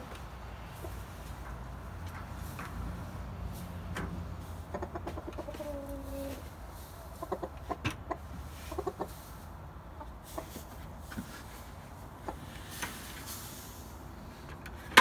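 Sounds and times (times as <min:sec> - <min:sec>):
chickens clucking: 0:00.2 - 0:13.3.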